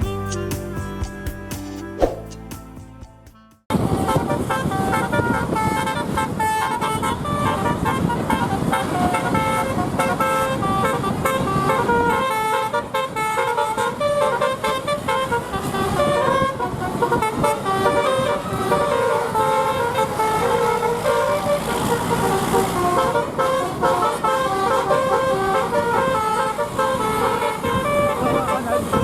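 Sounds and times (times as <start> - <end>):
bus musical horn playing a tune: 3.7 - 29.0.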